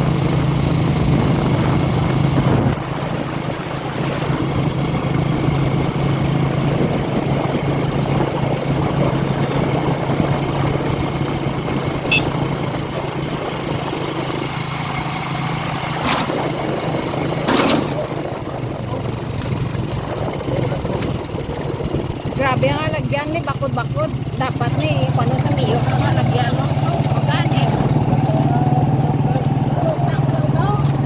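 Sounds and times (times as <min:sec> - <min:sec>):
road noise: 0:00.0 - 0:31.0
vehicle engine drone: 0:00.0 - 0:31.0.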